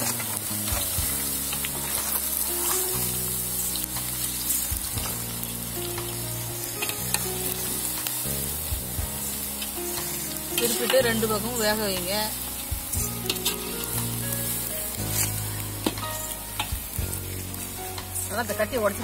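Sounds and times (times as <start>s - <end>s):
background music: 0.0s - 19.0s
cauliflower sizzling in hot oil: 0.0s - 19.0s.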